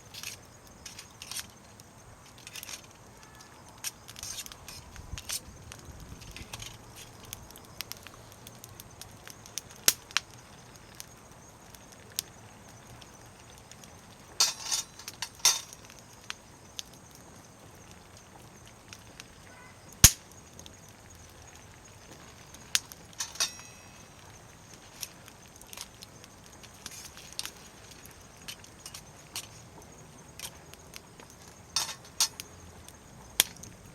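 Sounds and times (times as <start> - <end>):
campfire crackling and popping: 0.0 - 33.9.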